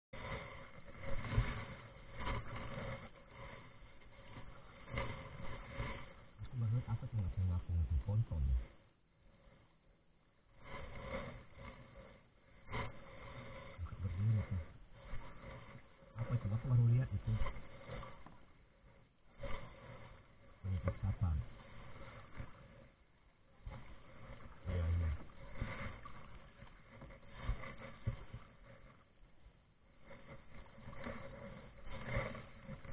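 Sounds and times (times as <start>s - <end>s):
kayak paddles in water: 0.1s - 32.9s.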